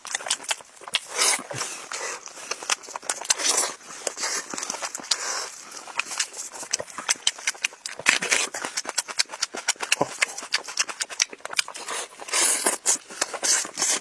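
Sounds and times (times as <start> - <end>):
wet chewing and mouth smacking: 0.0 - 14.0.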